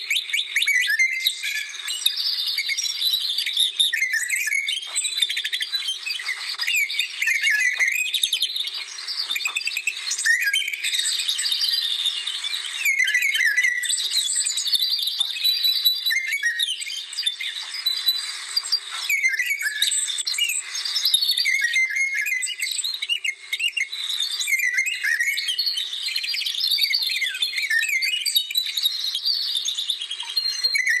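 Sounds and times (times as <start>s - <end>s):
songbirds singing and chirping: 0.0s - 31.0s.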